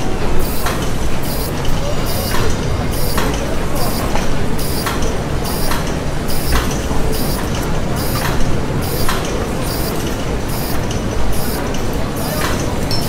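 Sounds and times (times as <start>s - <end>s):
regular hissing clank: 0.0s - 13.0s.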